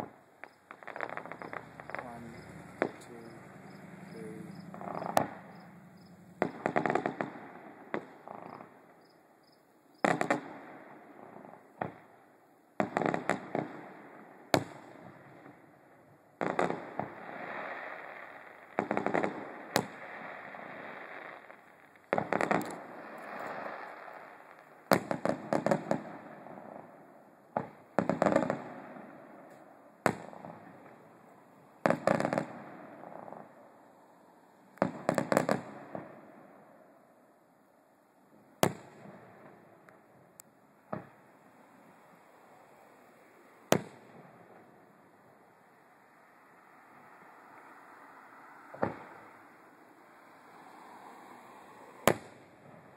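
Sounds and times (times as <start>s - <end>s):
distant fireworks booming: 0.0s - 9.1s, 10.0s - 12.2s, 12.8s - 33.8s, 34.6s - 37.2s, 38.6s - 49.6s.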